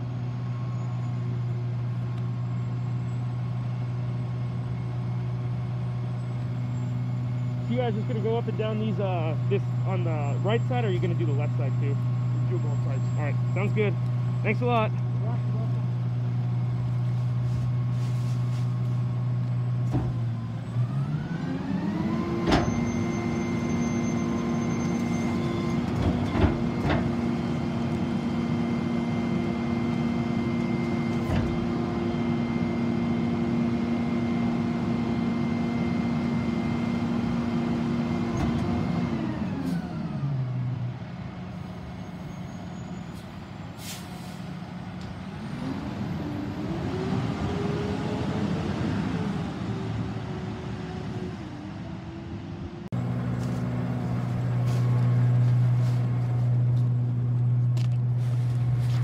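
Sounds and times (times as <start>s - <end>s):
diesel truck engine: 0.0s - 59.0s.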